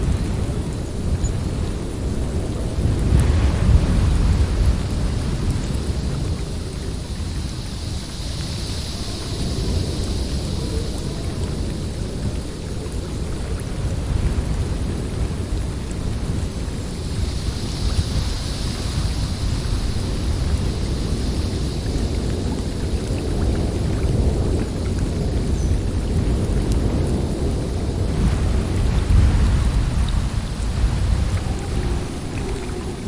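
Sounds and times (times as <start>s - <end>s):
snowstorm wind blowing: 0.0s - 33.0s.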